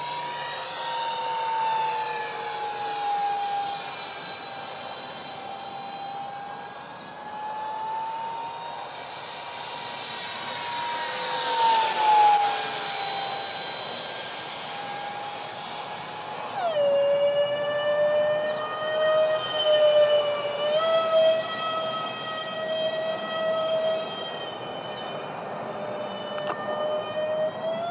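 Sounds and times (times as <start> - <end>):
model jet fans whining: 0.0 - 27.9.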